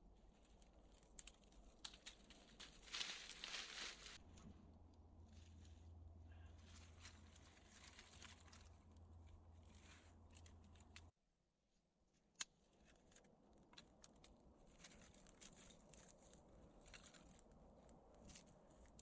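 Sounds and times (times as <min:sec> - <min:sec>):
kindling crackling as it burns: 0:00.0 - 0:11.2, 0:12.6 - 0:19.0
dry twigs rustling and snapping: 0:00.1 - 0:11.1, 0:12.3 - 0:19.0.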